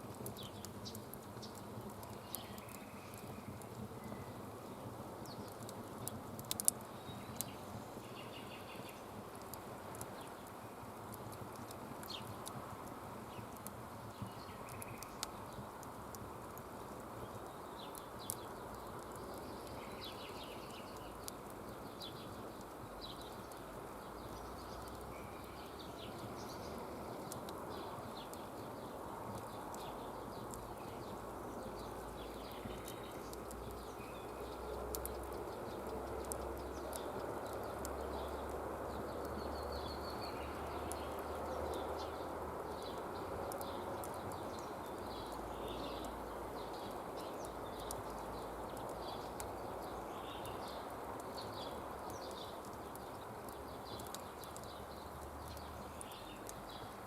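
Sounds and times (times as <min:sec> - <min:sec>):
campfire crackling and hissing: 0:00.0 - 0:57.0.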